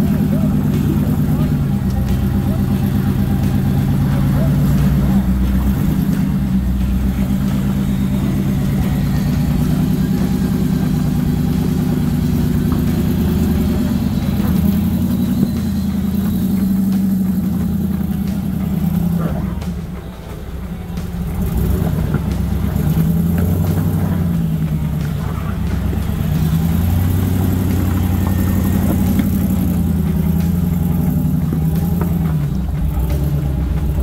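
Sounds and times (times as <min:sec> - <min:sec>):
off-road vehicle engine at low revs: 0:00.0 - 0:34.0.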